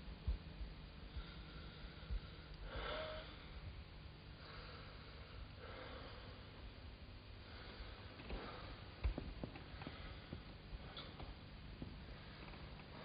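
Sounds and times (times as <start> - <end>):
man breathing heavily: 1.0 - 13.0.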